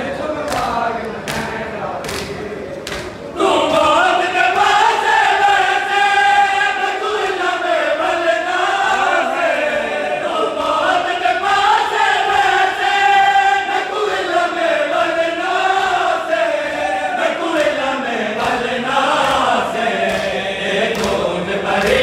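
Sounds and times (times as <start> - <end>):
men chanting in unison: 3.3 - 22.0.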